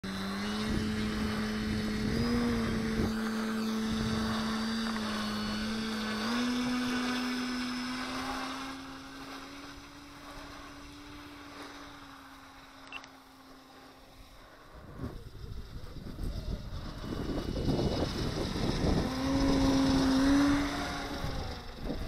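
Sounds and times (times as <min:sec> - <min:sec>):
model motor and propeller hum: 0:00.0 - 0:22.0.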